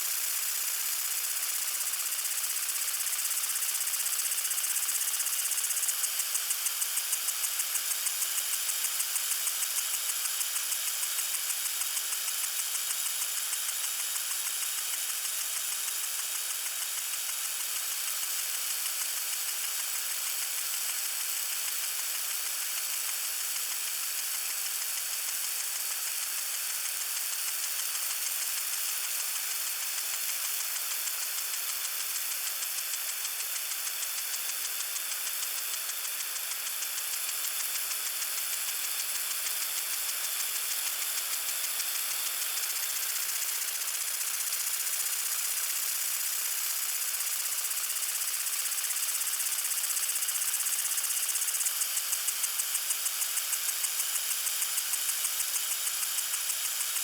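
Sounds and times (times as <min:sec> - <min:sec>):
water sprinkler spraying: 0:00.2 - 0:13.3, 0:13.9 - 0:57.0.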